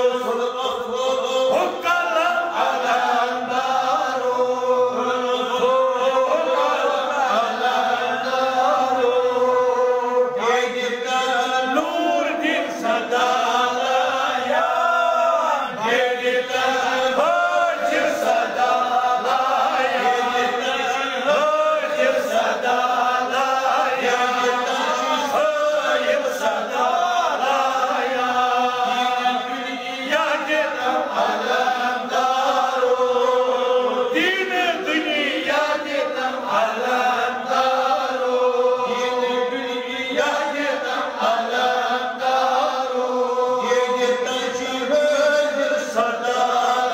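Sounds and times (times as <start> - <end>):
voices chanting melodically: 0.0 - 46.9.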